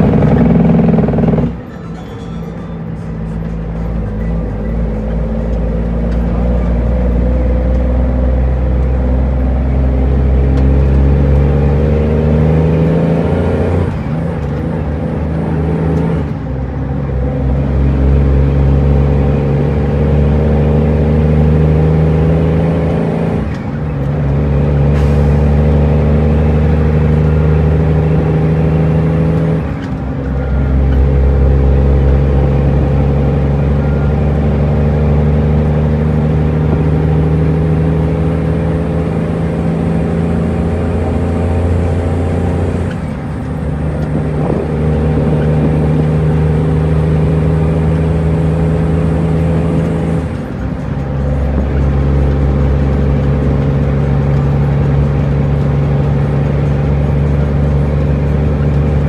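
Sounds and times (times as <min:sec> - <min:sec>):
diesel truck engine pulling: 0:00.0 - 0:59.0.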